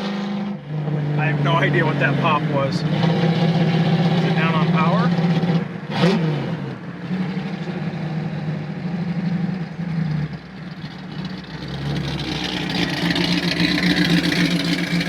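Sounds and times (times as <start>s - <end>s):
car engine running: 0.7s - 15.0s.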